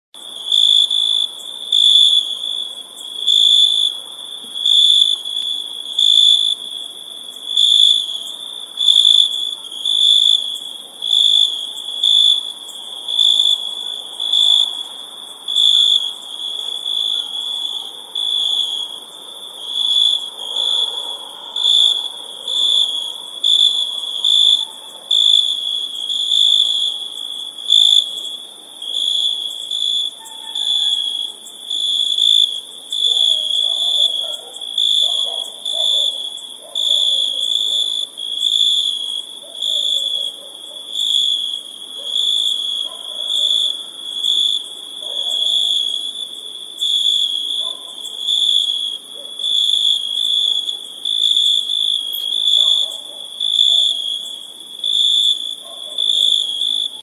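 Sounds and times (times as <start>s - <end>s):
crickets chirping: 0.2s - 57.0s.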